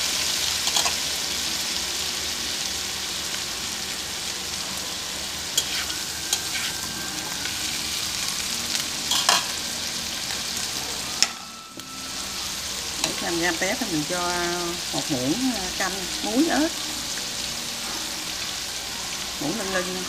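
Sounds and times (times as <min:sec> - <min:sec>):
shrimp sizzling in oil: 0:00.0 - 0:20.0.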